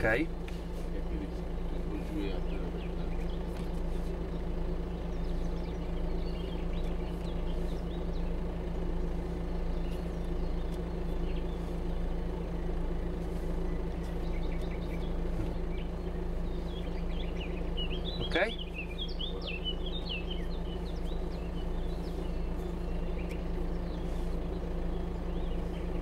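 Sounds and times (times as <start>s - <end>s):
car engine running steadily: 0.0s - 26.0s.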